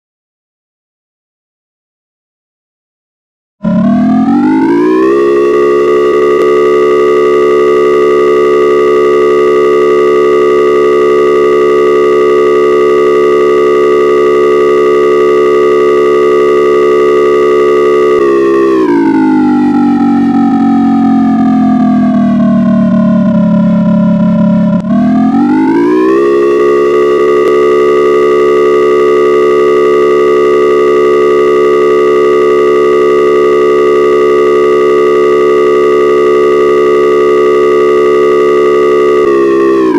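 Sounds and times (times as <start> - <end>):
warning siren winding: 3.6 - 39.9.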